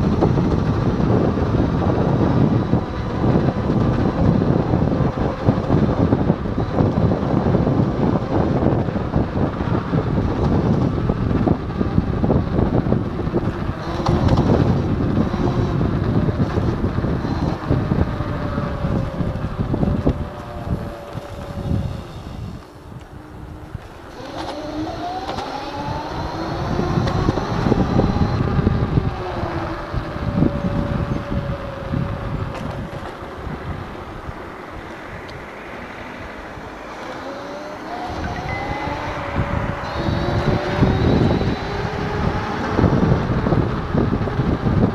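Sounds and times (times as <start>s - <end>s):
electric motor whine: 0.0s - 44.9s
road noise: 0.0s - 44.9s
wind buffeting microphone: 0.0s - 44.9s.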